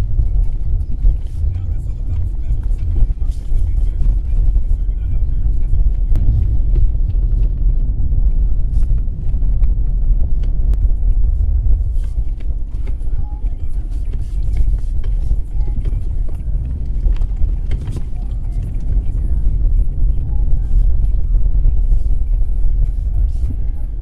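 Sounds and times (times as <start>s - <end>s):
vehicle engine low rumble: 0.0s - 24.0s.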